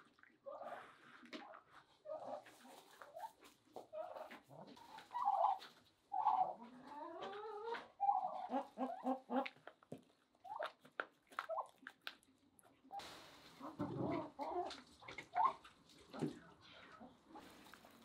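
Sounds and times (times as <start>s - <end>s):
chickens clucking: 0.5s - 18.0s.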